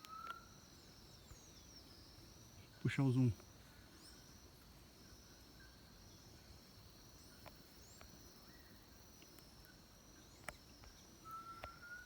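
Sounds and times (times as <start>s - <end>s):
faint bird chirps: 0.0s - 12.0s
high-pitched insect trill: 0.0s - 12.0s.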